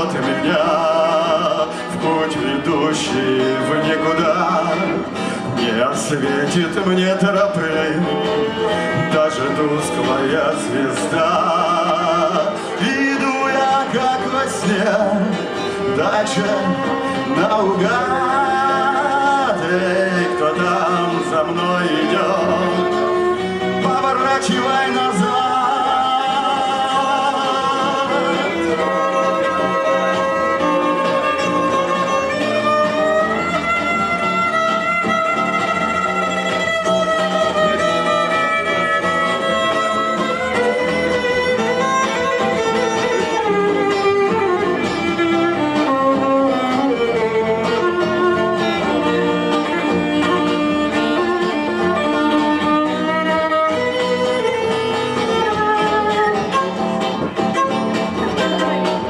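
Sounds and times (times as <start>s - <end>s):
strummed acoustic guitar: 0.0s - 59.0s
violin melody: 0.0s - 59.0s.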